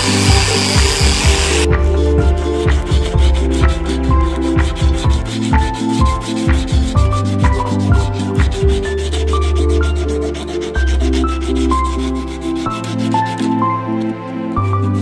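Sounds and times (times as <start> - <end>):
sanding steel scrape: 0.0 - 1.7, 2.6 - 14.1
background music with bass line: 0.0 - 15.0.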